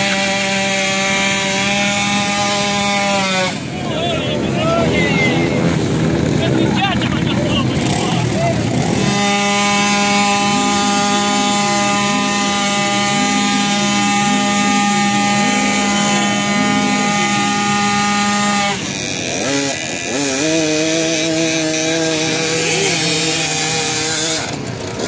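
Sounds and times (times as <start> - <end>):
motorcycle engine revving: 0.0 - 25.0
scooter engine at high revs: 0.0 - 25.0.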